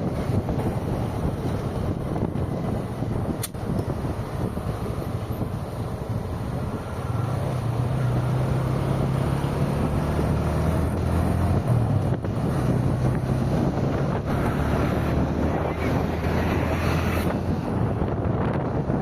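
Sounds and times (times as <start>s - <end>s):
tyre and wind rush: 0.0s - 19.0s.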